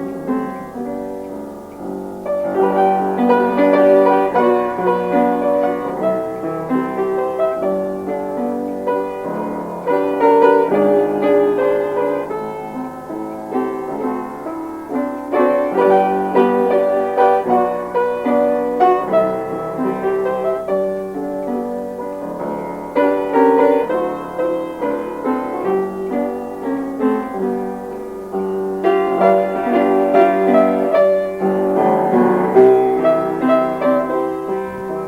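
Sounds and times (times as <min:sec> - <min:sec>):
solo piano playing: 0:00.0 - 0:35.0.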